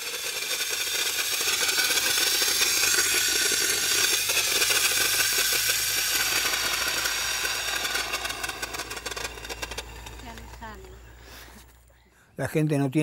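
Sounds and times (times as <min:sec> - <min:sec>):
water spraying from hose: 0:00.0 - 0:10.6.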